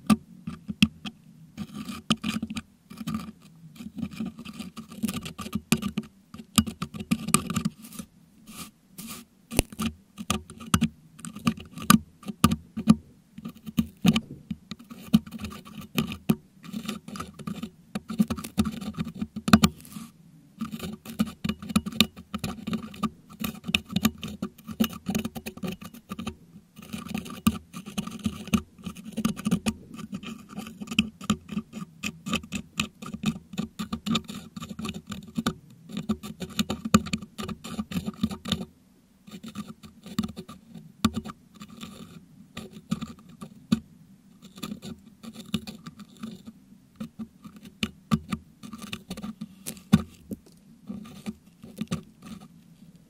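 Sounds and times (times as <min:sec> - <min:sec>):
metal hook scraping microphone grille: 0:00.5 - 0:38.7, 0:39.3 - 0:43.8, 0:44.4 - 0:53.0.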